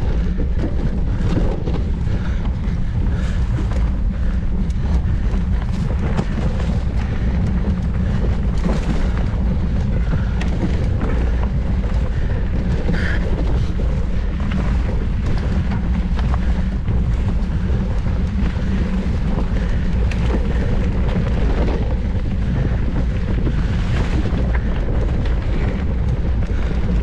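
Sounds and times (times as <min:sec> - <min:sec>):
bike clicks and rattles: 0:00.0 - 0:27.0
tyres rumbling on trail: 0:00.0 - 0:27.0
wind buffeting microphone: 0:00.0 - 0:27.0.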